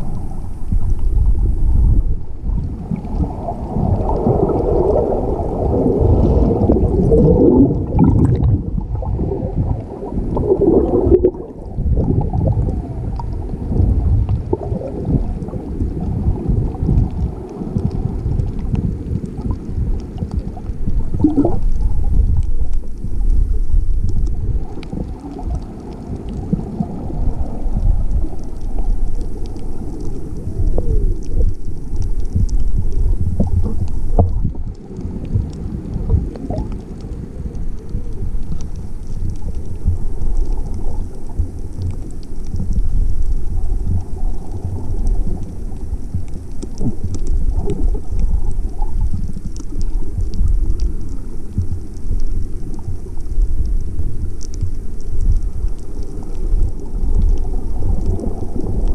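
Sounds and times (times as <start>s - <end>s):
short gurgling glides: 0.0s - 53.2s
muffled underwater water rumble: 0.0s - 58.9s
faint ticks: 11.3s - 58.9s.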